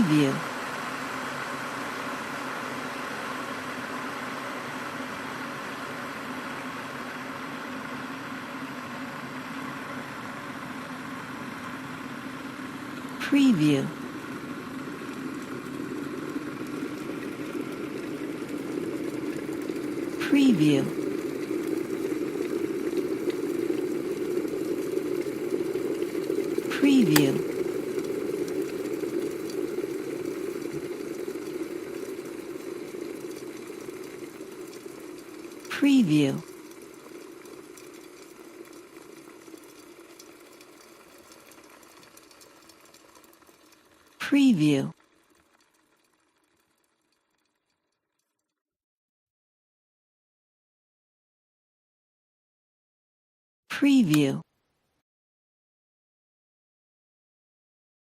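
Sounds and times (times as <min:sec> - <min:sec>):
electric kettle heating water: 0:00.0 - 0:48.3.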